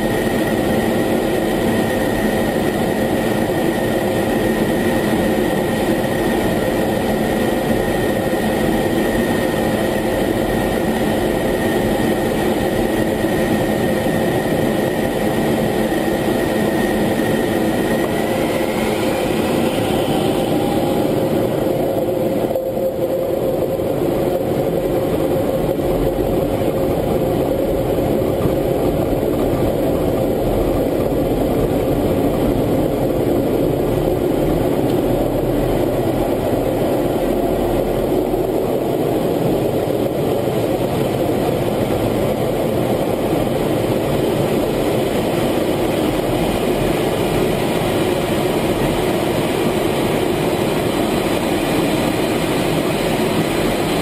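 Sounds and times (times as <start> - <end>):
jet engine rumble in cockpit: 0.0 - 54.0.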